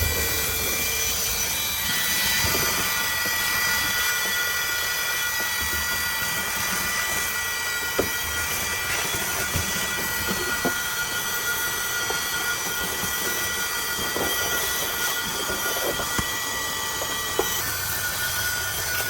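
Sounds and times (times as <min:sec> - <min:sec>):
vacuum cleaner whining: 0:00.0 - 0:19.0.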